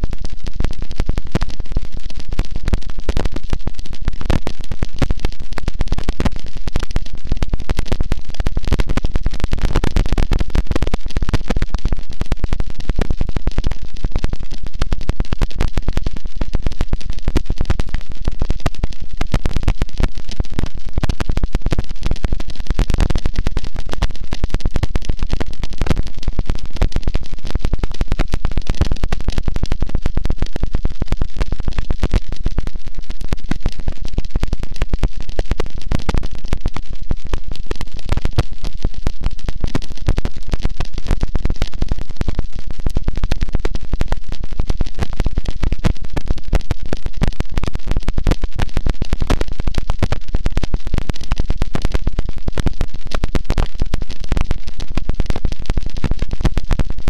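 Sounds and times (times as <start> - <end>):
distorted crackling static: 0.0 - 57.0.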